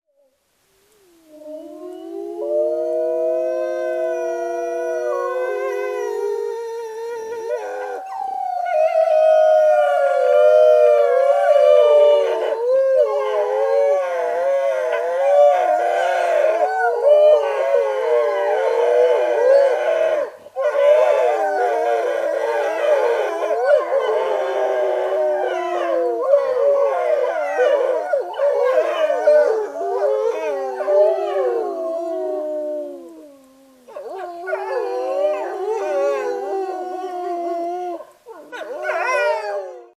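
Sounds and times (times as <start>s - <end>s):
wolves howling in chorus: 1.4s - 40.0s.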